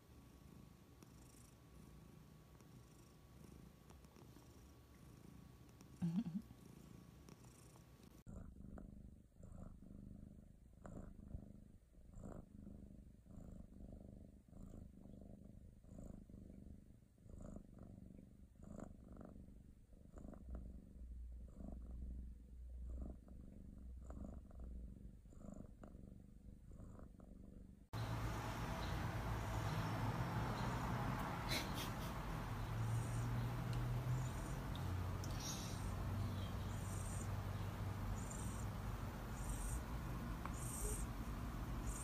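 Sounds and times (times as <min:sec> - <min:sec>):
cat purring: 0:00.0 - 0:42.0.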